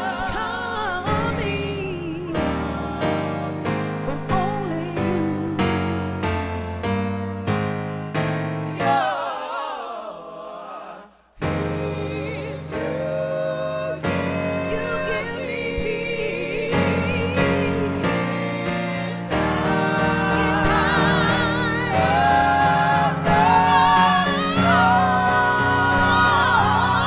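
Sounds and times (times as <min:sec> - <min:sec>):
vocal group singing in harmony: 0:00.0 - 0:06.6, 0:08.6 - 0:27.0
keyboard accompaniment: 0:00.0 - 0:09.6, 0:11.4 - 0:27.0.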